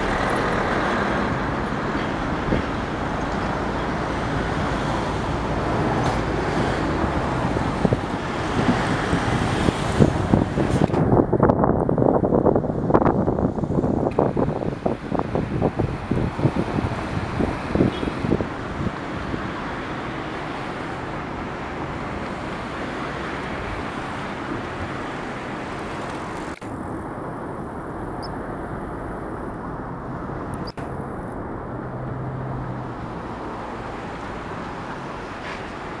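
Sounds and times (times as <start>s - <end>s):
distant road traffic hum: 0.0s - 36.0s.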